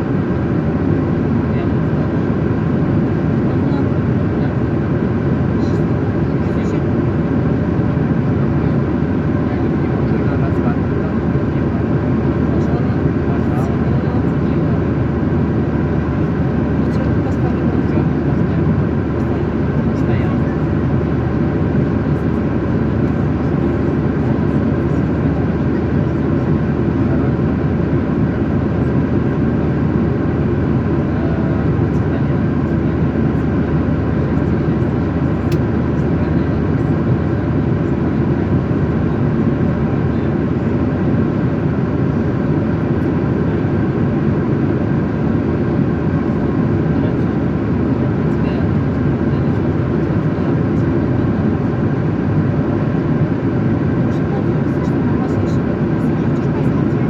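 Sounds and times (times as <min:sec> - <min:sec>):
jet engine and airflow rumble: 0:00.0 - 0:57.0.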